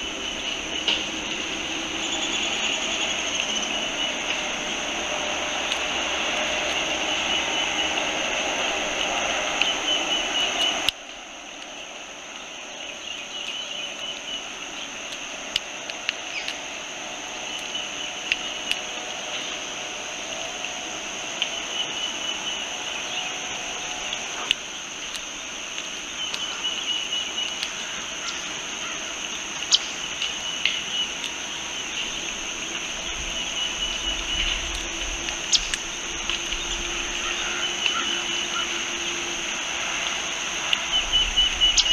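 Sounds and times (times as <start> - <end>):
rushing noise: 0.0 - 41.9
steady high-pitched hum: 0.0 - 41.9.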